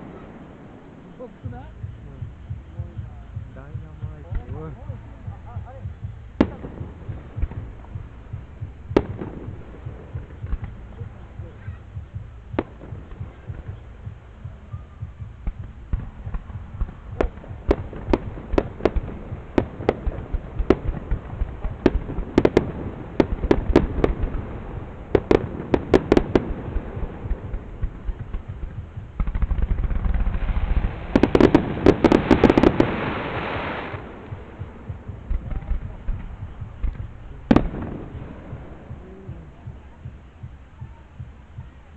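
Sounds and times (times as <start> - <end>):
fireworks bangs and crackling: 0.0 - 41.4.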